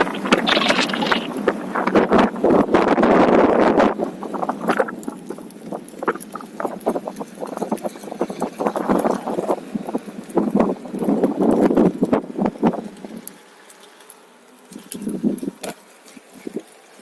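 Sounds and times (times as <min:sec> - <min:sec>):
tyre and wind noise: 0:00.0 - 0:13.2, 0:14.7 - 0:16.7.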